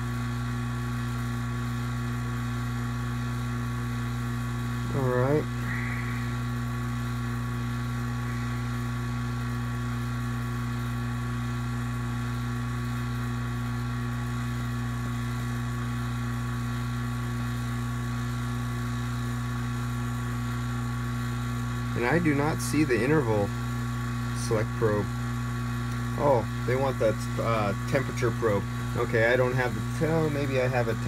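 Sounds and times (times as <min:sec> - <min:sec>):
vacuum pump humming: 0:00.0 - 0:31.0.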